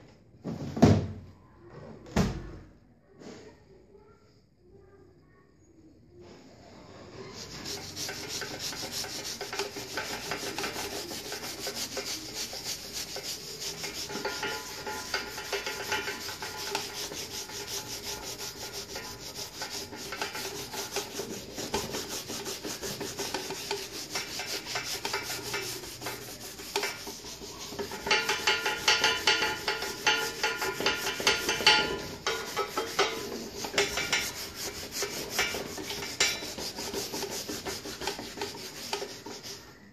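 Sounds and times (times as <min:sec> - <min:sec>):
abrasive pad scrubbing metal: 0:07.1 - 0:39.9.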